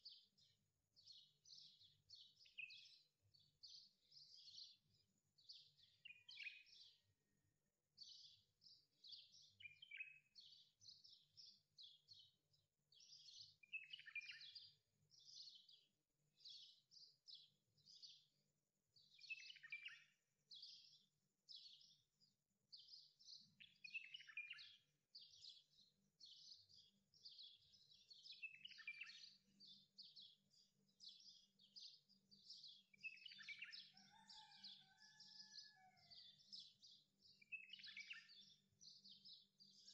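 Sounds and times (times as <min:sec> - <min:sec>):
songbird chirping and twittering: 0:00.0 - 0:39.9.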